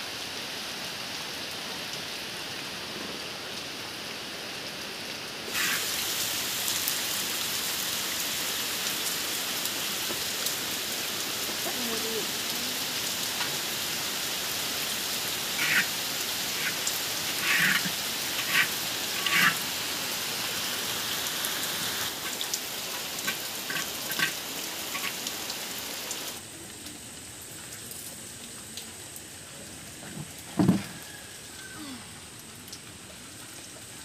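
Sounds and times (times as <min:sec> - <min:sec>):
rain hiss: 0:00.0 - 0:34.0.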